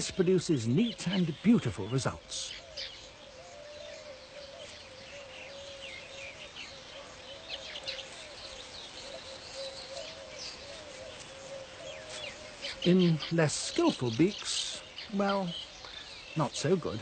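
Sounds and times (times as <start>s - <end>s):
birds chirping and chattering: 0.0s - 17.0s.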